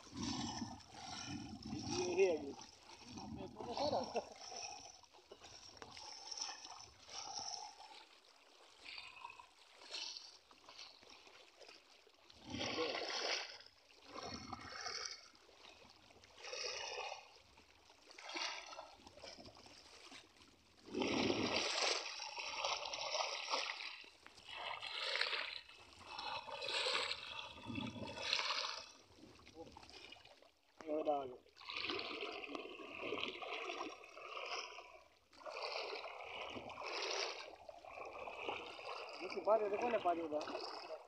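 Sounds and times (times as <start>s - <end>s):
people wading through water: 0.0s - 41.0s.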